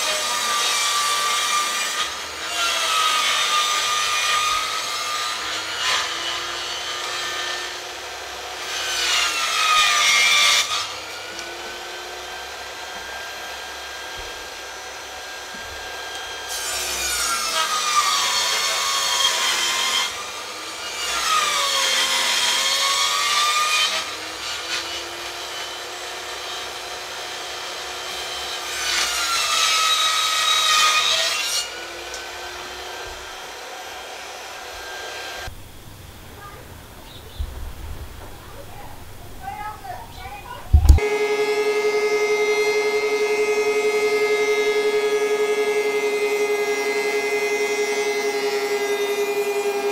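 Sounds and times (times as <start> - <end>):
circular saw ripping timber: 0.0 - 35.5, 39.5 - 49.9.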